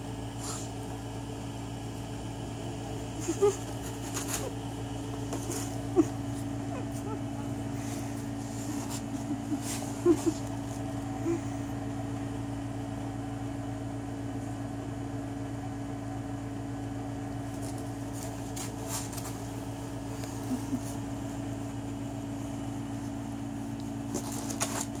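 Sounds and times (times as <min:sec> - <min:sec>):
appliance humming: 0:00.0 - 0:25.0.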